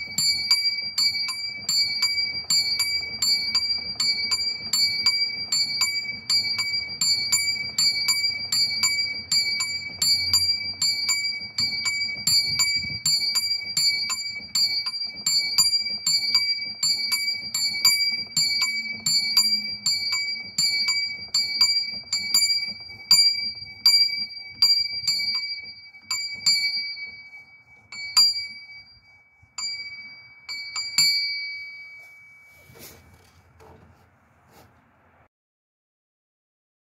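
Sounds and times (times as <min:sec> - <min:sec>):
small bell ringing: 0:00.0 - 0:32.8.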